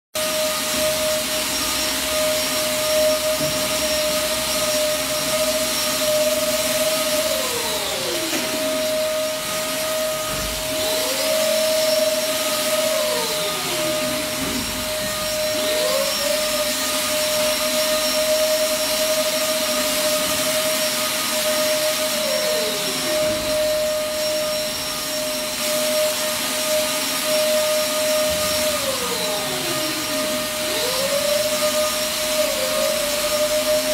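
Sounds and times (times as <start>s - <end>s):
electric motor whining: 0.2s - 33.9s.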